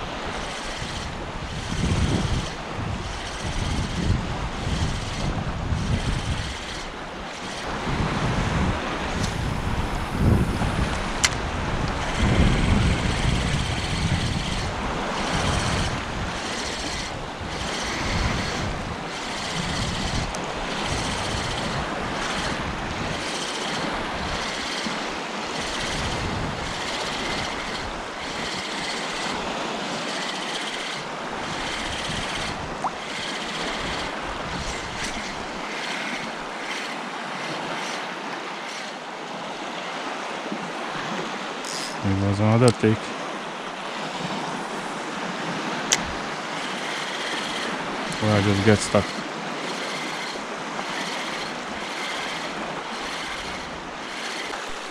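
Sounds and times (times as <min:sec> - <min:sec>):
wind buffeting microphone: 0:00.0 - 0:54.9
small waves lapping: 0:08.8 - 0:54.9.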